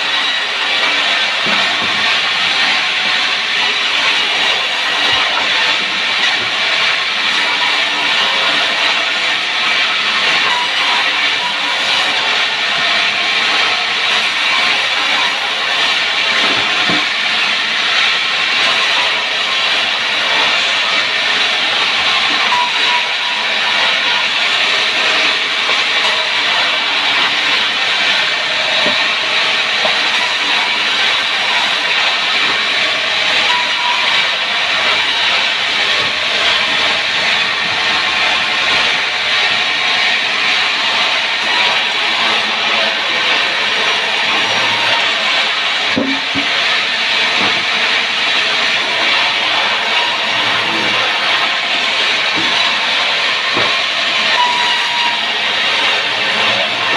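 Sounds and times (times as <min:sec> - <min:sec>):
power saw cutting wood: 0:00.0 - 0:56.9.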